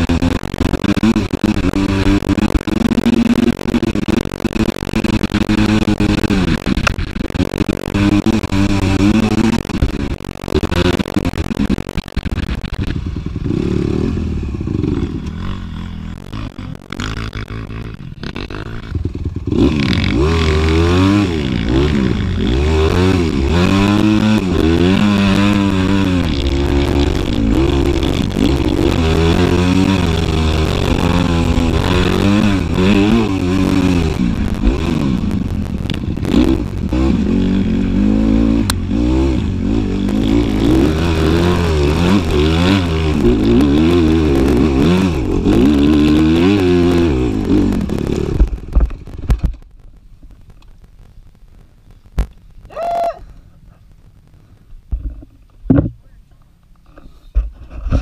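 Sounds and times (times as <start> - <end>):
dirt bike engine revving: 0.0 - 49.5.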